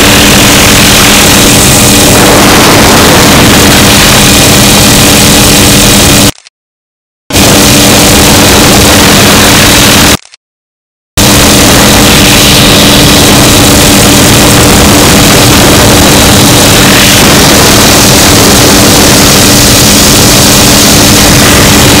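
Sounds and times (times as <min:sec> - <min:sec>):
helicopter turbine and rotor drone: 0:00.0 - 0:06.3, 0:07.4 - 0:10.2, 0:11.2 - 0:22.0
low hum: 0:00.0 - 0:06.4, 0:07.3 - 0:10.2, 0:11.2 - 0:22.0
rush of air: 0:00.0 - 0:06.5, 0:07.4 - 0:10.3, 0:11.2 - 0:22.0.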